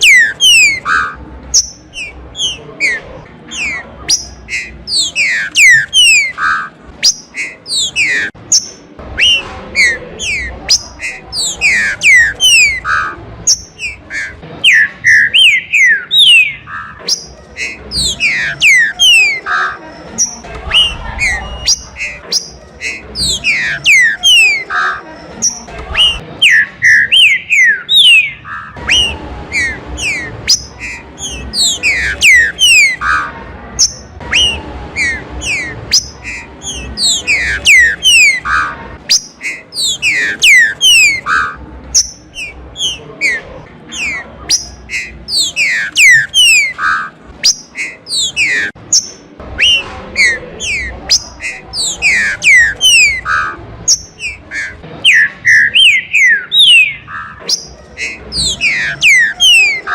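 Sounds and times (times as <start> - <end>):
birds singing whistled notes: 0.0 - 59.9.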